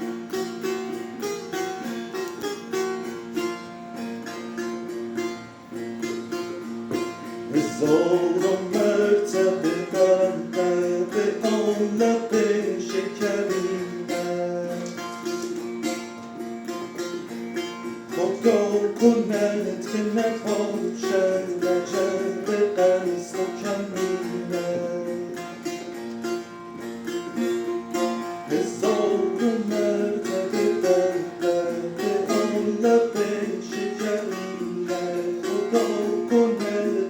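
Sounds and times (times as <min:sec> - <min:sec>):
plucked lute improvisation: 0:00.0 - 0:37.0.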